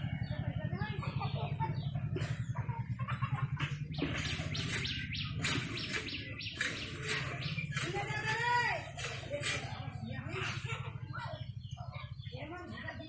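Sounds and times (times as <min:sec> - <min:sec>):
chickens clucking: 0:00.0 - 0:12.8
birds chirping: 0:00.0 - 0:13.0
low motor hum: 0:00.0 - 0:13.0.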